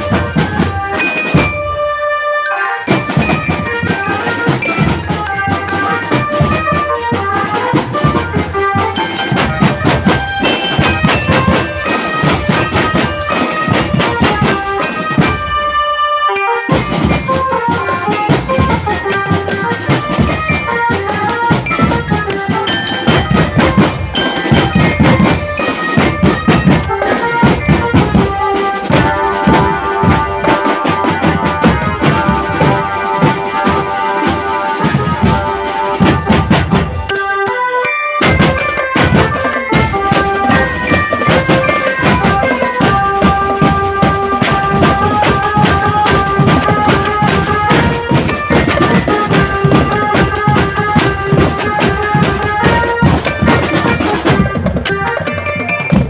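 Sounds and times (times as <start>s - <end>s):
marching drums beating: 0.0s - 1.9s, 2.5s - 15.9s, 16.5s - 37.5s, 38.2s - 56.0s
bell lyre melody: 0.0s - 56.0s.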